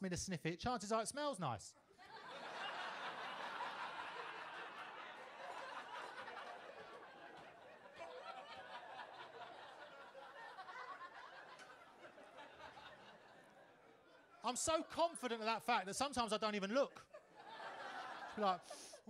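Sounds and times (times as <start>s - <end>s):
audience laughing: 2.0s - 15.7s, 16.7s - 19.0s.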